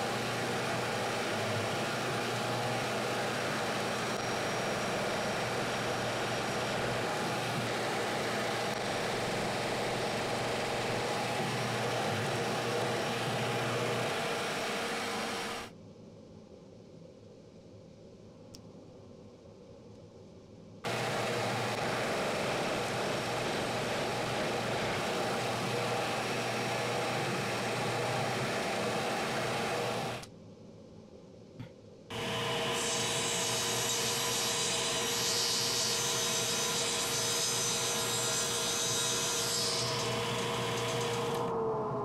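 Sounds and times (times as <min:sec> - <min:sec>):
drill press boring plywood: 0:00.0 - 0:15.7, 0:20.9 - 0:30.3, 0:32.1 - 0:42.0
table saw whine cutting: 0:00.0 - 0:15.7, 0:20.9 - 0:30.3, 0:32.1 - 0:42.0.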